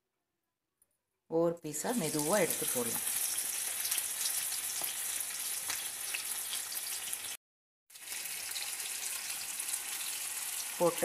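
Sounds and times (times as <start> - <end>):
fish sizzling in oil: 1.9 - 11.0.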